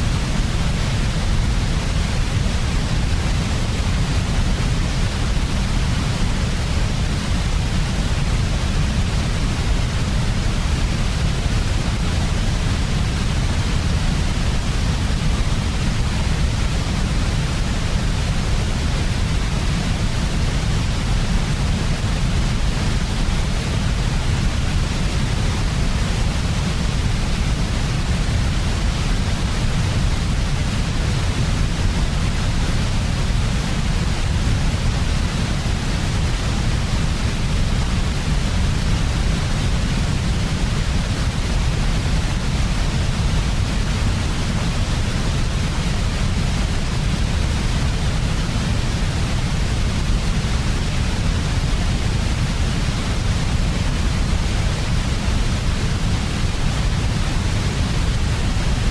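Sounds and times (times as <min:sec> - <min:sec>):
white noise hiss: 0:00.0 - 0:58.9.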